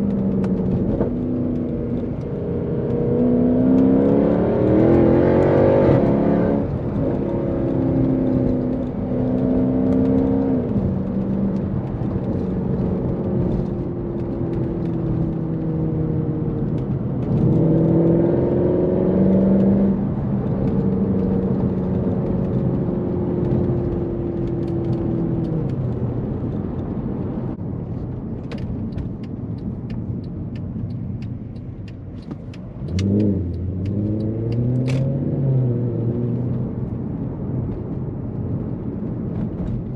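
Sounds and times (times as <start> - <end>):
car engine revving: 0.0 - 27.6, 30.4 - 39.8.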